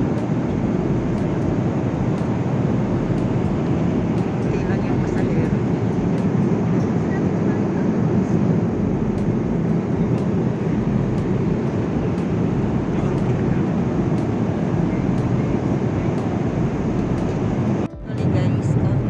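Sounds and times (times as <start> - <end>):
jet engine and airflow rumble: 0.0 - 19.0.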